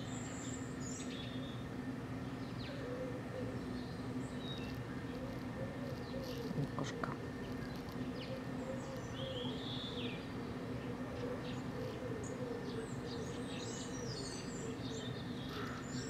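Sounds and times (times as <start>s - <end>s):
low outdoor hum: 0.0s - 16.0s
small birds chirping and twittering: 0.0s - 16.0s.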